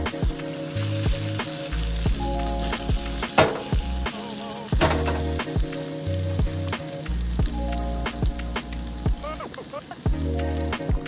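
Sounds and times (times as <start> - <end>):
food sizzling in a pan: 0.0 - 11.0
instrumental background music: 0.0 - 11.0.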